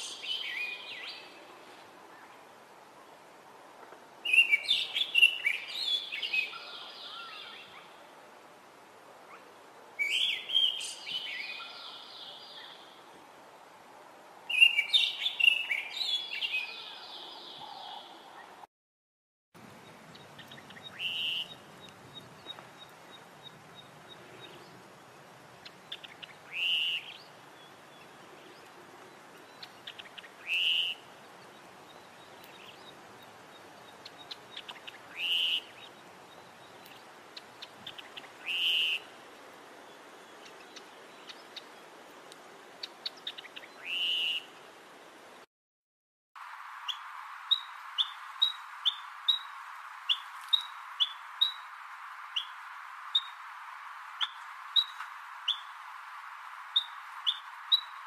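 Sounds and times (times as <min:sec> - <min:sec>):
steady hiss: 0:00.0 - 0:18.6, 0:19.6 - 0:45.5, 0:46.4 - 0:58.0.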